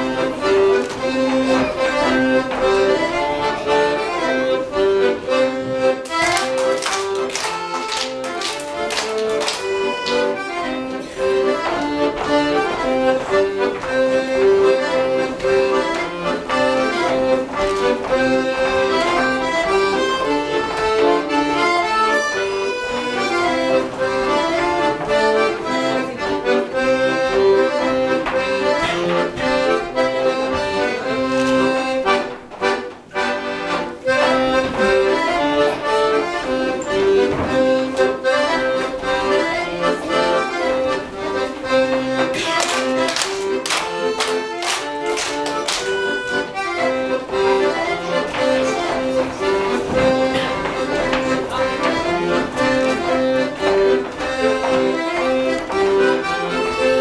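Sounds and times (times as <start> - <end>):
accordion playing dance tune: 0.0 - 57.0.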